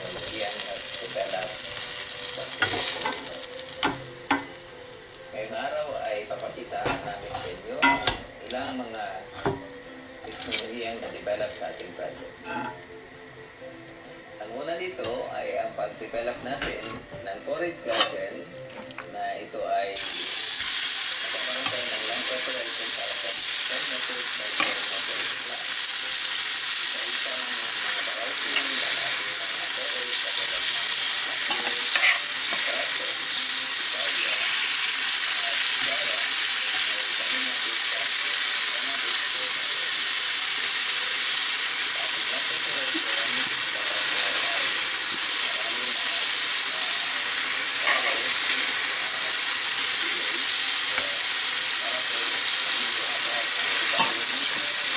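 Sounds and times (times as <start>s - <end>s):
food sizzling in pan: 0.0s - 54.9s.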